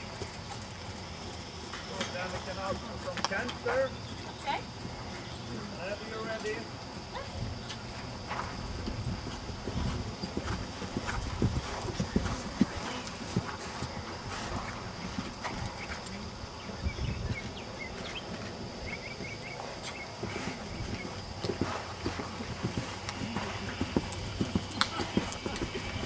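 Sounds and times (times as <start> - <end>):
horse hooves trotting on sand: 0.0 - 26.0.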